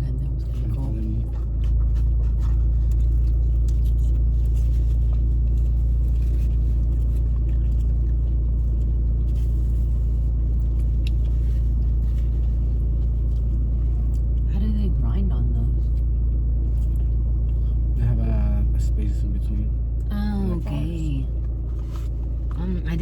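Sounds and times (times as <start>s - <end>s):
constant hum: 0.0s - 23.0s
steady low rumble: 0.0s - 23.0s.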